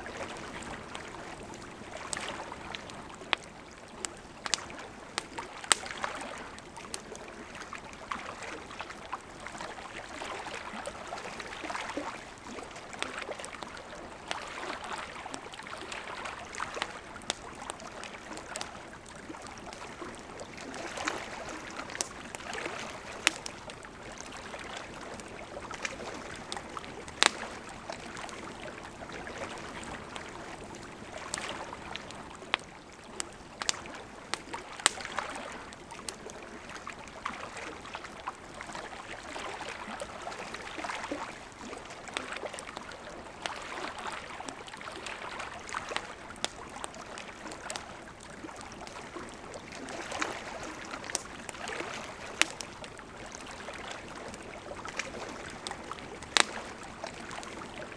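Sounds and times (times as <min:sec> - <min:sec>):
wood fire crackling: 0:00.0 - 0:08.2, 0:09.1 - 0:36.6, 0:45.0 - 0:57.9.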